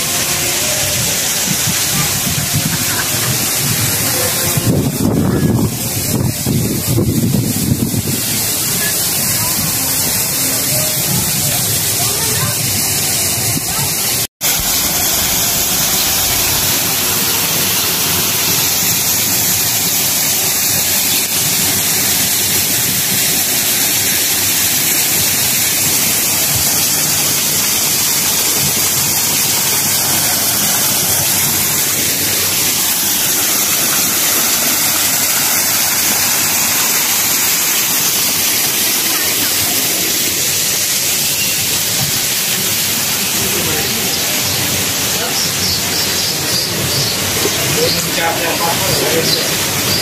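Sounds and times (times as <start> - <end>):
loud rushing noise: 0.0 - 45.6.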